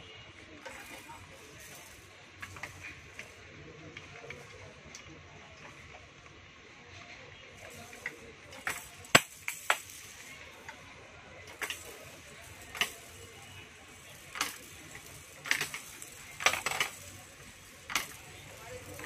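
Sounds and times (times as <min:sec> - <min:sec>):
plastic balls rattling down ramps: 0:00.6 - 0:05.0, 0:07.6 - 0:19.0.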